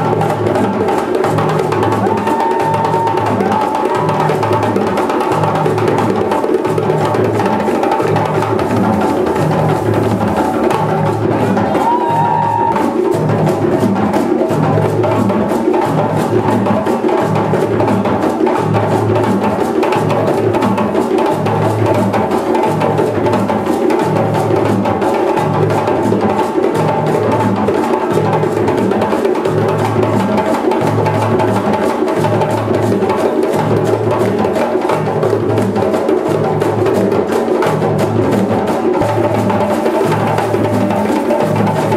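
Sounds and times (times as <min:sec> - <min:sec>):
djembe slaps and tones: 0:00.0 - 0:41.9.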